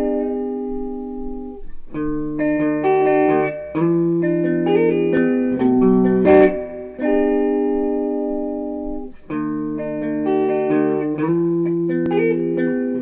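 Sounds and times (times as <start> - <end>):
acoustic guitar playing chords: 0.0 - 13.0.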